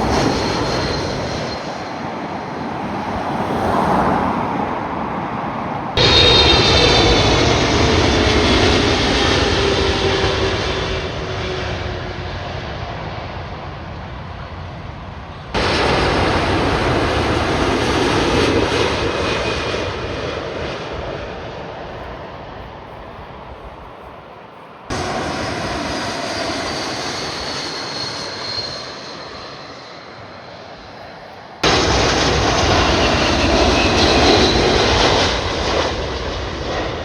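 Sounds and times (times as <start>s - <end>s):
jet airliner engine roar: 0.0s - 37.0s.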